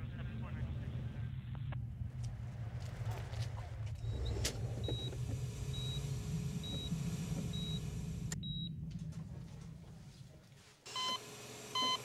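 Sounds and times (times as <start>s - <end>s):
vehicle engine and road rumble: 1.0s - 10.8s.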